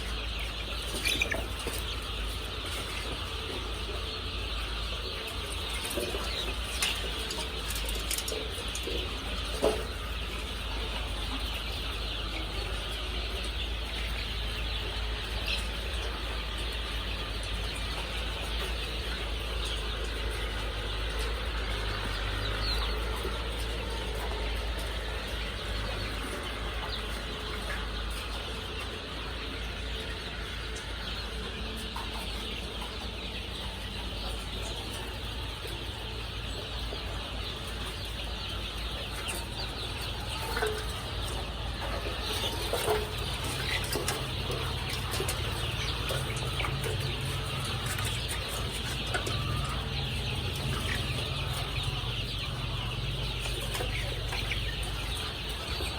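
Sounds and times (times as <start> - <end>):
chickens clucking and cheeping: 0.0 - 55.9.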